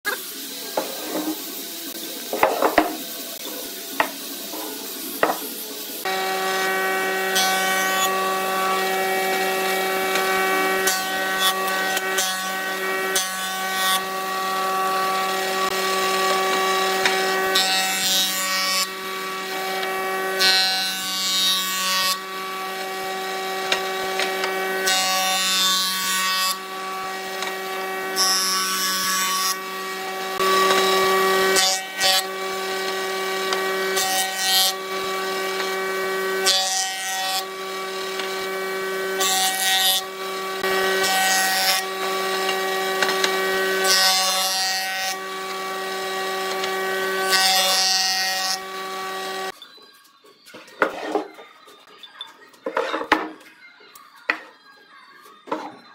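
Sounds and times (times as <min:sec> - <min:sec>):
woodworking jointer humming: 0:00.3 - 0:49.5.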